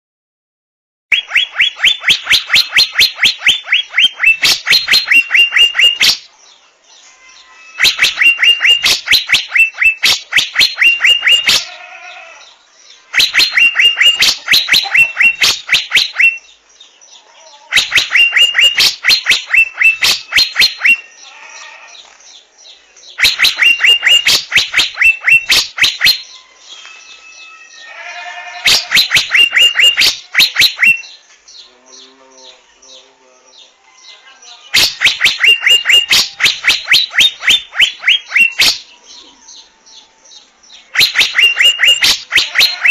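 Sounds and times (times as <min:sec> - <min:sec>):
bird calling in sharp repeated notes: 0:01.1 - 0:06.3, 0:07.2 - 0:16.6, 0:17.6 - 0:22.0, 0:23.1 - 0:32.7, 0:34.7 - 0:39.6, 0:40.8 - 0:42.9.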